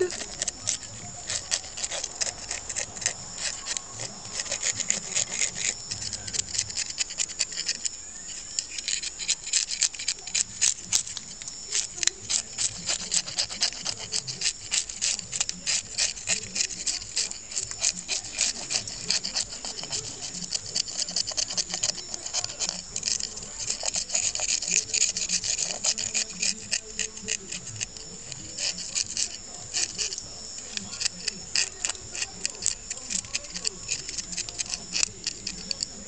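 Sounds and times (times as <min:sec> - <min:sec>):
knife scraping fish scales: 0:00.0 - 0:36.0.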